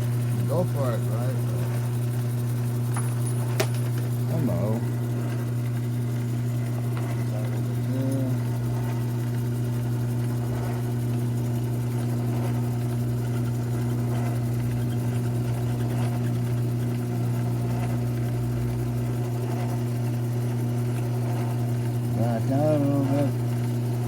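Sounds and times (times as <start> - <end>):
lathe motor humming: 0.0 - 24.0.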